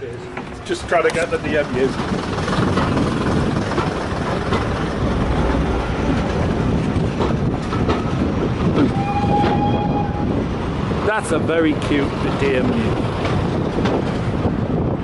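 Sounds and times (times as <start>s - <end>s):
train rumbling on track: 0.0s - 15.0s
wheels clacking over rail joints: 0.0s - 15.0s.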